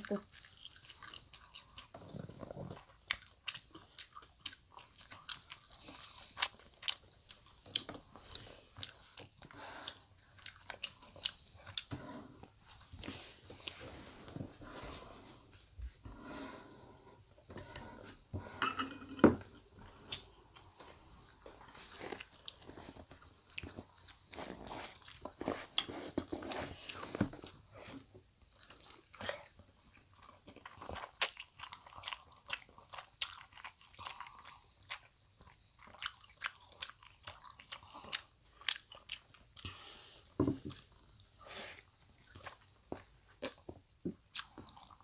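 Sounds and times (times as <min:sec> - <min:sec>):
chewing fish cakes: 0:00.0 - 0:13.8, 0:19.8 - 0:45.0.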